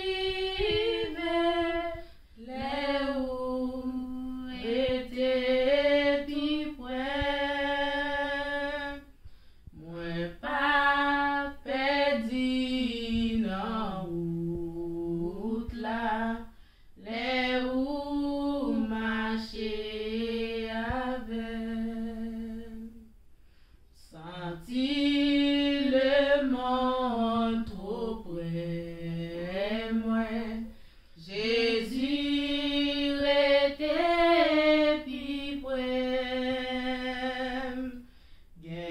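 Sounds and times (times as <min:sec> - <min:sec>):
women singing unaccompanied: 0:00.0 - 0:23.1, 0:24.0 - 0:38.9.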